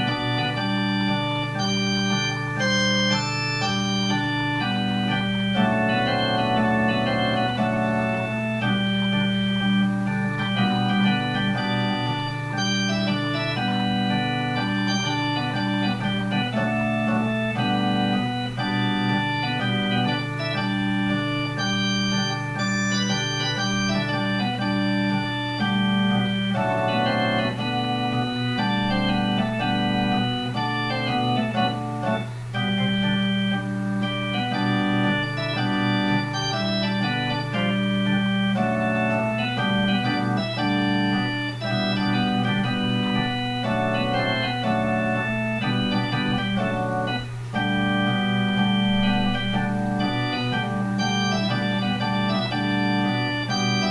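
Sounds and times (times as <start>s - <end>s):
held low organ note: 0.0s - 53.9s
organ chords: 0.0s - 53.9s.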